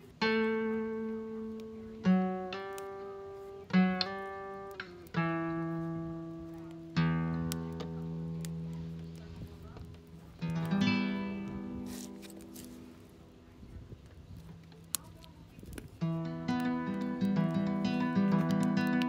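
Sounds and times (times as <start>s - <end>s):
acoustic guitar strumming: 0.2s - 9.1s, 9.8s - 13.4s, 16.0s - 19.0s.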